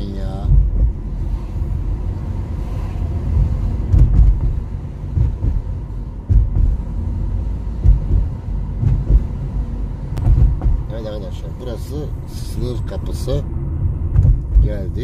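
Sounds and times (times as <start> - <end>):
car engine and road rumble: 0.0 - 15.0
low bumps: 0.0 - 15.0.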